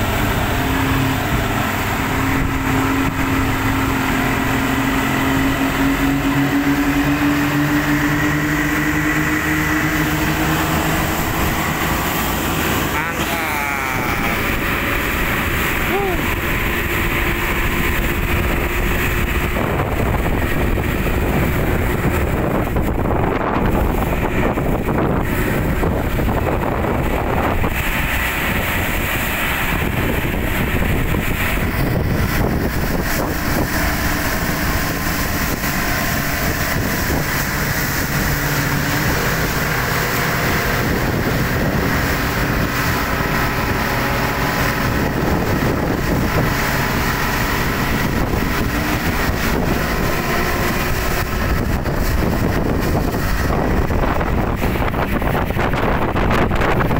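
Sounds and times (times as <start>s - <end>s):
wind buffeting microphone: 0.0s - 13.3s, 13.9s - 56.9s
outboard motors running: 0.0s - 56.9s
water rushing: 0.0s - 56.9s.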